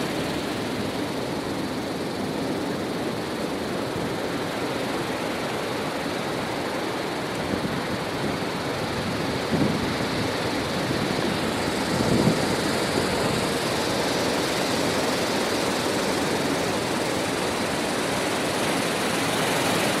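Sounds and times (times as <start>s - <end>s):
heavy rain falling: 0.0s - 0.8s, 4.4s - 20.0s.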